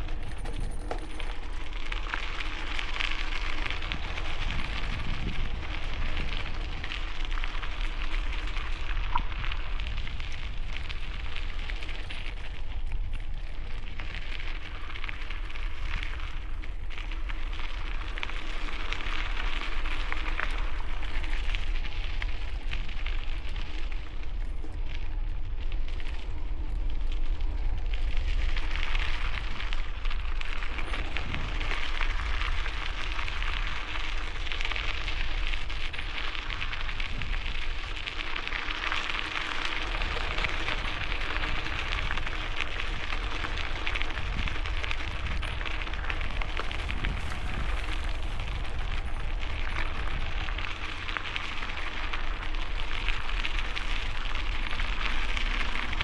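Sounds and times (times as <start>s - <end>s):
bicycle tyres crunching over gravel: 0.0s - 56.0s
wind rumble on microphone: 0.0s - 56.0s.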